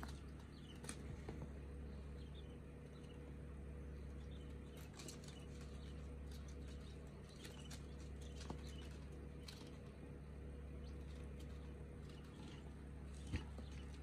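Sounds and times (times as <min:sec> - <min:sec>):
chicks flapping wings: 0:00.0 - 0:14.0
steady low hum: 0:00.0 - 0:14.0.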